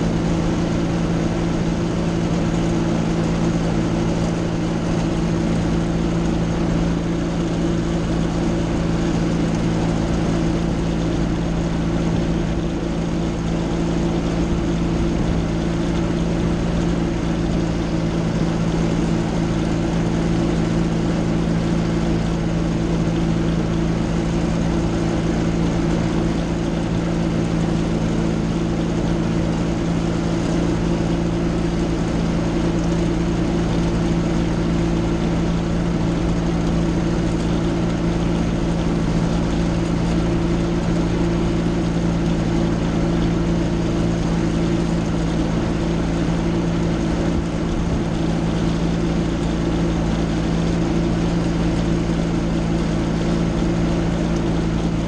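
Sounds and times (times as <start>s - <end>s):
ultralight engine and propeller purring: 0.0s - 55.0s.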